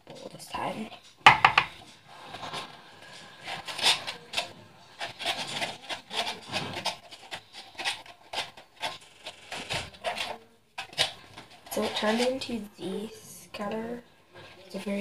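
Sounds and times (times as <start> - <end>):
plastic utensil stirring slime in cup: 0.0 - 15.0.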